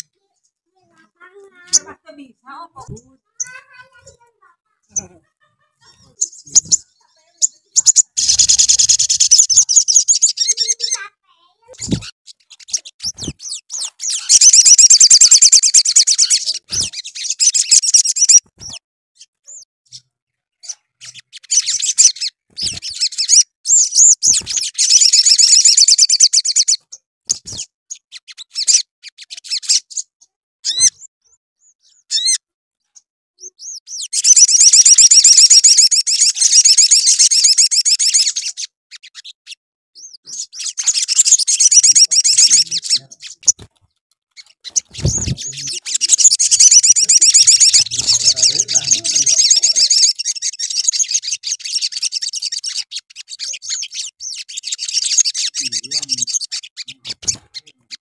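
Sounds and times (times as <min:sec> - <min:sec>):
bird chirps: 0:00.0 - 0:58.0
bird trilling song: 0:00.0 - 0:58.0.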